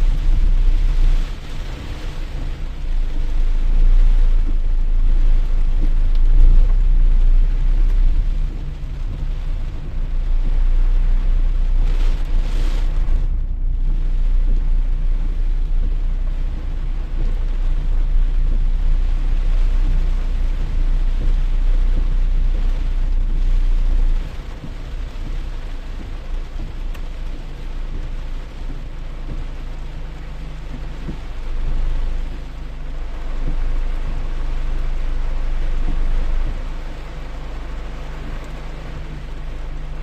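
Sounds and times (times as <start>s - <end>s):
heavy rain hissing: 0.0s - 40.0s
loud deep rumble: 0.0s - 40.0s.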